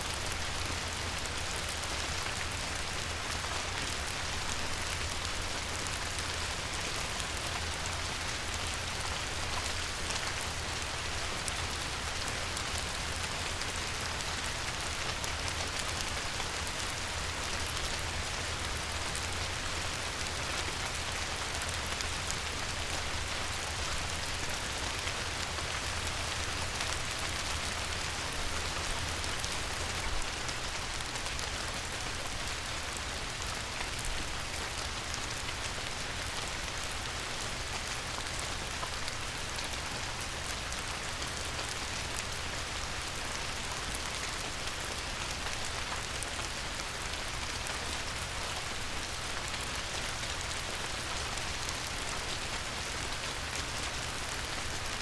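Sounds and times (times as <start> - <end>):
light rain on river: 0.0 - 55.0.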